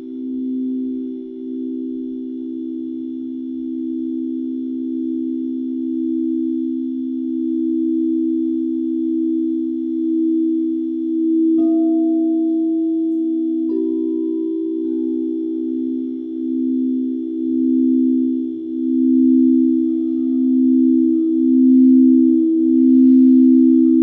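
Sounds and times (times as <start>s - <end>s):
singing bowl struck ringing: 0.0s - 24.0s
singing bowls sustained chord: 0.0s - 24.0s.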